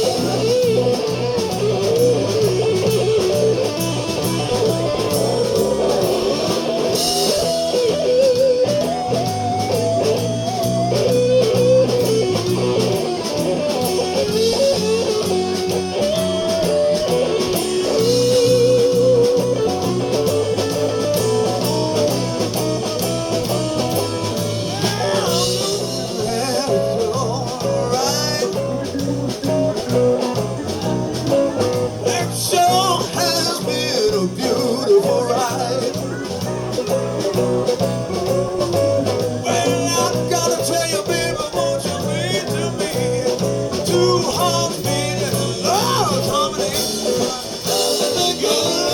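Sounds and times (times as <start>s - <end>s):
bass line: 0.0s - 48.9s
electric guitar: 0.0s - 48.9s.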